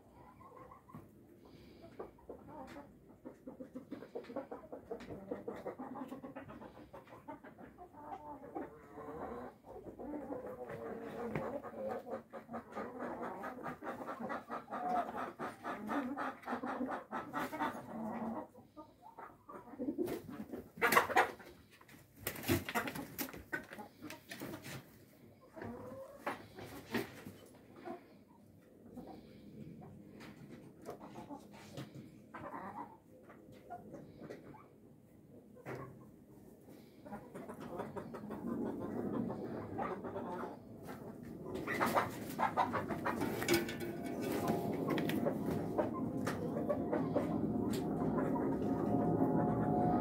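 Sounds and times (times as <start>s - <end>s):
roosters clucking: 0.0s - 50.0s.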